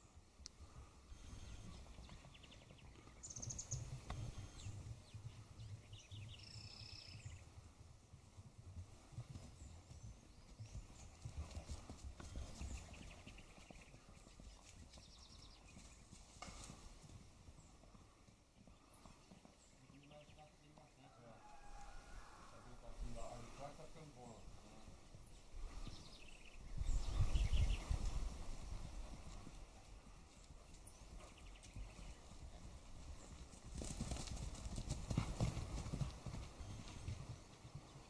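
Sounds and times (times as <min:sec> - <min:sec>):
birds chirping: 0:00.0 - 0:07.6, 0:09.3 - 0:33.5.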